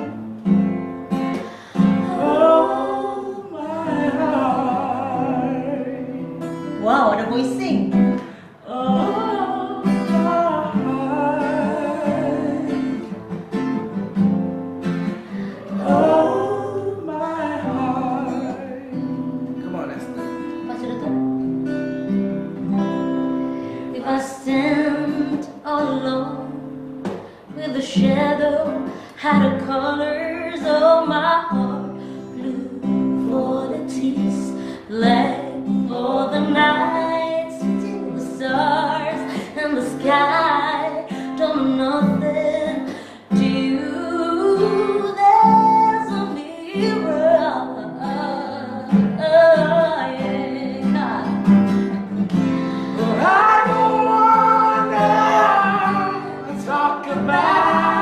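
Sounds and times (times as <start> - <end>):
acoustic guitar: 0.0 - 58.0
woman singing a ballad: 1.1 - 13.6, 15.3 - 19.3, 23.7 - 58.0.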